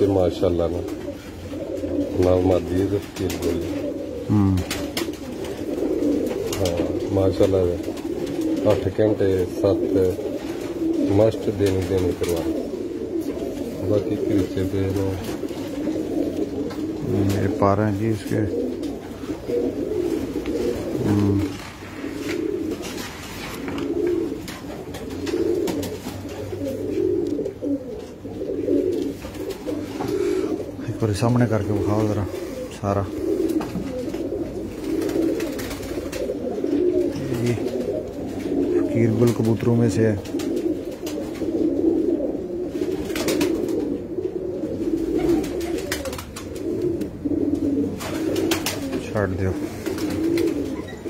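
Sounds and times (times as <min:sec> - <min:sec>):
pigeons cooing: 0:00.0 - 0:51.0.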